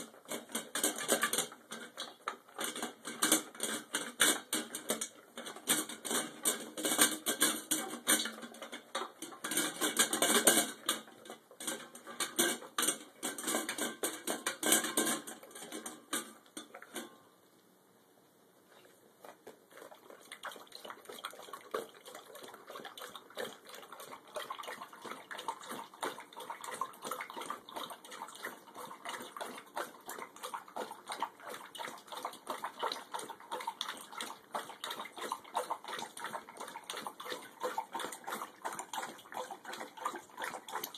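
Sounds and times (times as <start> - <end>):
dog lapping water: 0.0 - 16.9, 19.2 - 40.9
dog crunching food in metal bowl: 0.0 - 17.3, 18.7 - 40.9.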